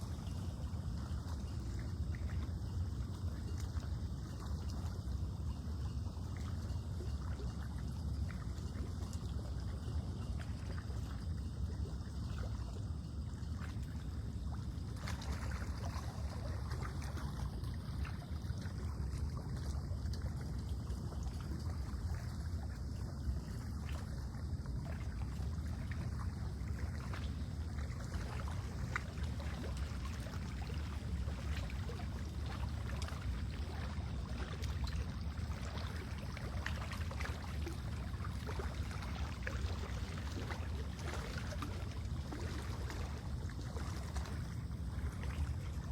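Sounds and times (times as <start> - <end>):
small waves lapping at shore: 0.0 - 45.9.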